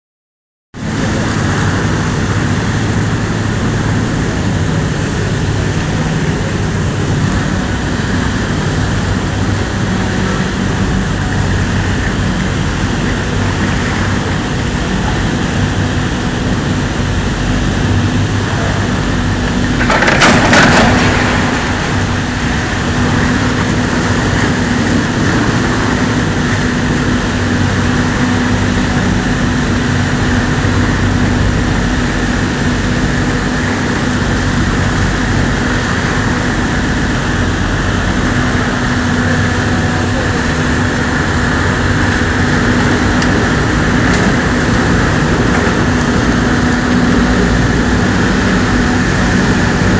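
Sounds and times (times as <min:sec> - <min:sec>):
boat engine humming: 0:00.8 - 0:49.9
churning water: 0:00.8 - 0:49.9.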